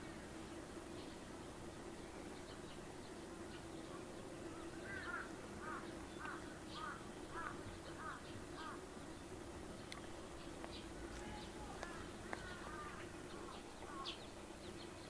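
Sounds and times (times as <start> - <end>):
faint steady hum: 0.0 - 15.0
soft outdoor hiss: 0.0 - 15.0.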